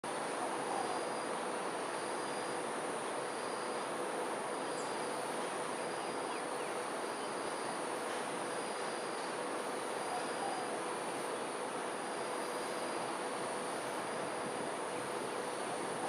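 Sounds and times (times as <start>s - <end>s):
insects trilling: 0.2s - 16.0s.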